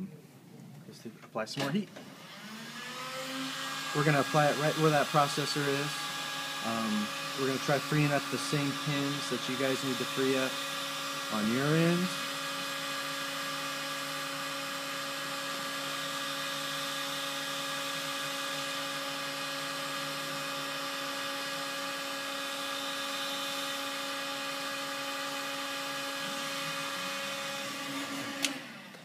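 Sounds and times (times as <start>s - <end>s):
heat gun fan humming and whining: 1.7s - 29.0s.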